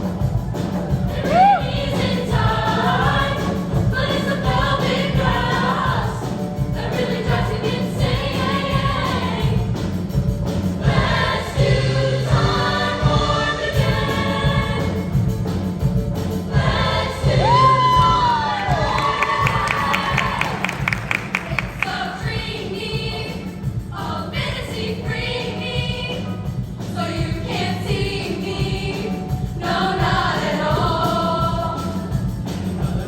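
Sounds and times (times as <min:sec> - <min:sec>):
musical accompaniment: 0:00.0 - 0:33.0
girls' choir singing: 0:01.1 - 0:10.0, 0:10.8 - 0:15.3, 0:16.4 - 0:32.3.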